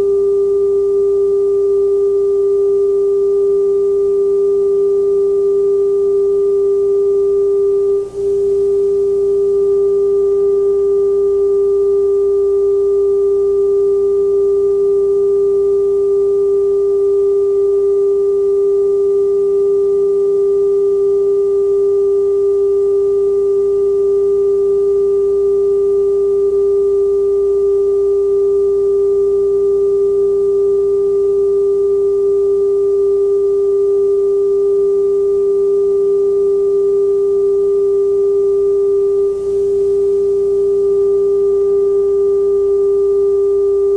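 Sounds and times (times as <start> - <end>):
faint low hum: 0.0 - 43.9
steady test tone: 0.0 - 43.9.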